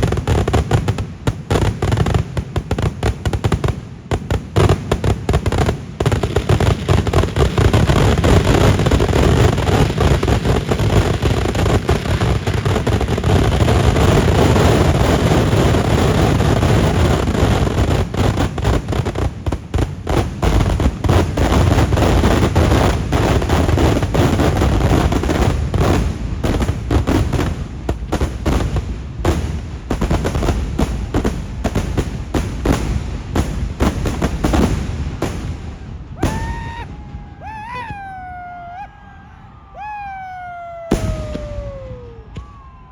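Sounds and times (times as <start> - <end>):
firecracker explosions: 0.0 - 38.8, 39.5 - 42.9.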